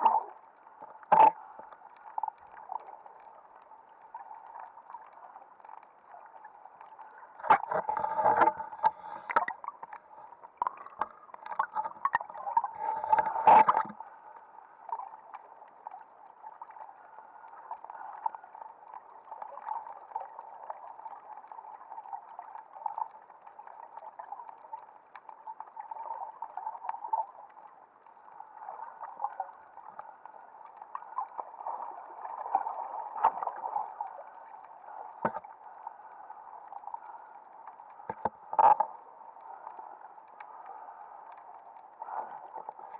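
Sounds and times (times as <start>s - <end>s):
muffled underwater hiss: 0.0s - 42.9s.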